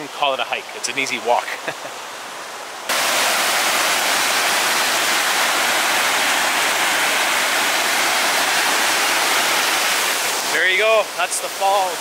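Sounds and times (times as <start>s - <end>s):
waterfall rushing: 0.5s - 12.0s.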